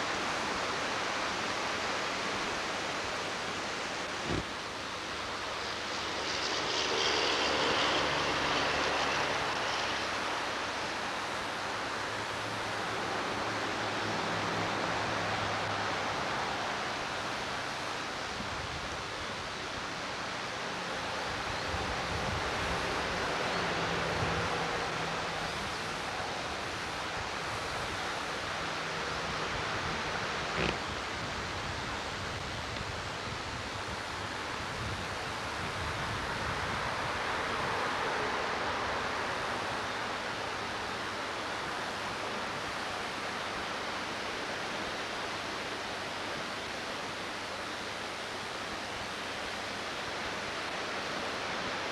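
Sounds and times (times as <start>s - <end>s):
creek rushing in flood: 0.0s - 51.9s.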